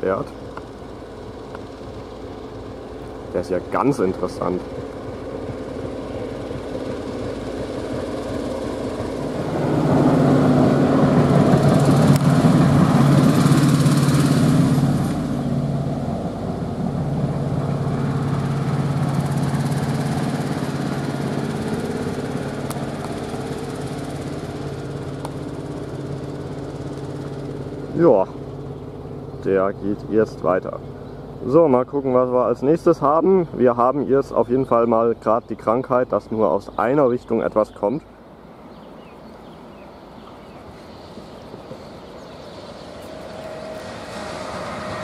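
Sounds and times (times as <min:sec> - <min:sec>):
diesel engine passing on track: 0:00.0 - 0:35.3, 0:38.6 - 0:45.0.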